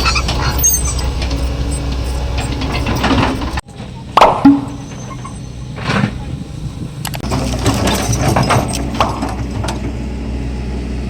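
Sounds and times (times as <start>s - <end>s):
machine knocks and clanks: 0.0s - 10.0s
excavator diesel engine running: 0.0s - 11.0s.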